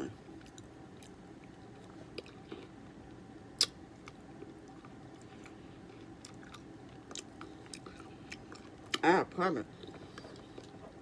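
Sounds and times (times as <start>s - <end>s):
person chewing: 0.4s - 2.8s, 3.6s - 9.0s, 9.8s - 11.0s.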